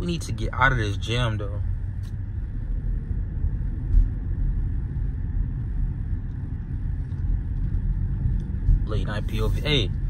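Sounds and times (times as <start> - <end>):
car cabin low rumble: 0.0 - 10.0.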